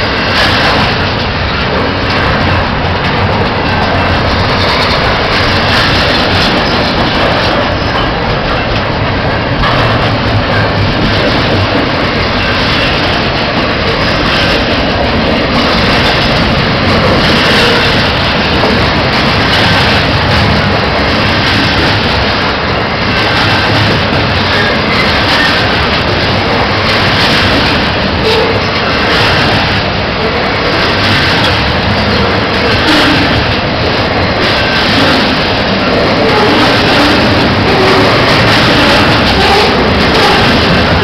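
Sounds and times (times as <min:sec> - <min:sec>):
freight train wheels on rails: 0:00.0 - 0:41.0.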